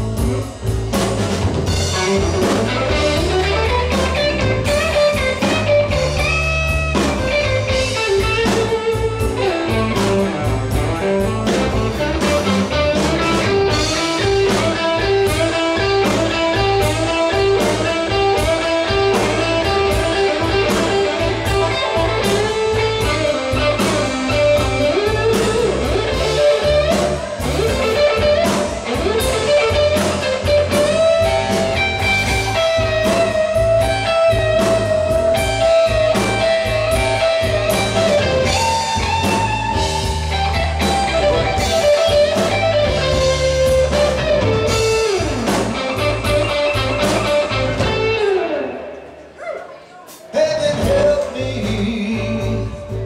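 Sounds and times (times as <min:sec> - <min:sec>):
bass guitar: 0:00.0 - 0:49.6, 0:50.2 - 0:53.0
drums: 0:00.0 - 0:53.0
electric guitar lead: 0:00.0 - 0:53.0.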